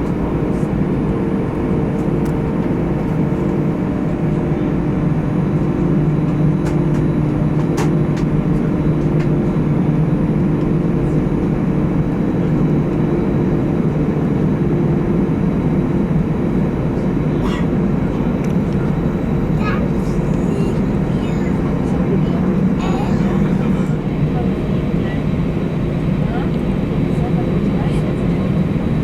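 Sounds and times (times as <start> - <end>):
jet engine hum in cabin: 0.0 - 29.0.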